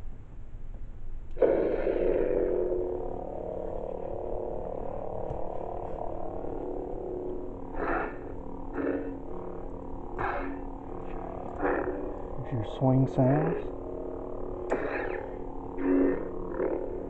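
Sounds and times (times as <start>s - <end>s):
lightsaber electric hum: 0.6s - 17.0s
lightsaber ignition: 1.3s - 17.0s.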